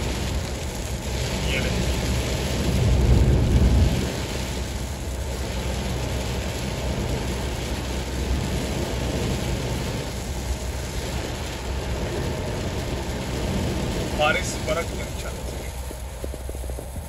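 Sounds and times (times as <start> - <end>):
rain hissing on windshield: 0.0 - 17.0
road and tyre rumble: 0.0 - 17.0
windshield wiper sweeping: 0.0 - 17.0.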